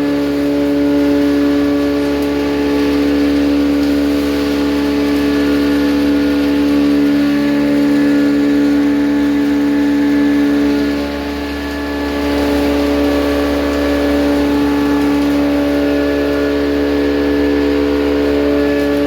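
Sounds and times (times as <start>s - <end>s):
grinding mill droning: 0.0s - 19.0s.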